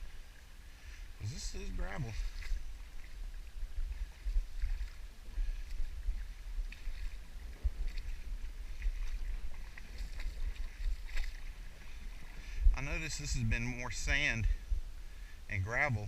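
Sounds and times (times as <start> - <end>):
low rumble: 0.0 - 15.3
paddle splashing water: 0.0 - 15.3.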